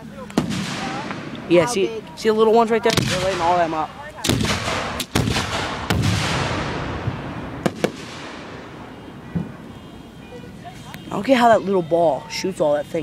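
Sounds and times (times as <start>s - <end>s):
crackling hiss: 0.0s - 11.5s
fireworks exploding: 0.2s - 11.1s.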